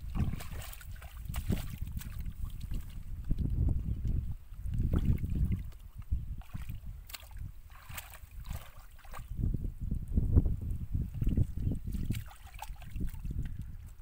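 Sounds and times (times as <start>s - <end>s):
small splashes: 0.0s - 9.4s, 11.1s - 14.0s
hands sloshing through muddy water: 0.0s - 9.6s, 11.1s - 14.0s.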